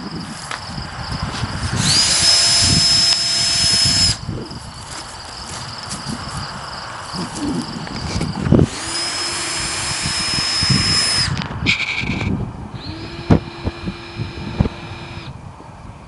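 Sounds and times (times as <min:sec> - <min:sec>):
power drill whining: 0:00.0 - 0:15.4.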